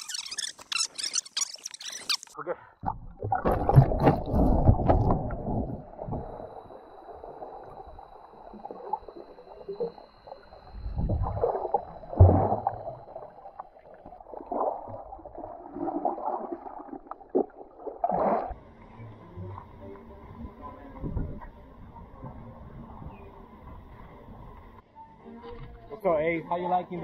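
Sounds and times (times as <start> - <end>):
water churning and bubbling underwater: 2.8 - 24.8.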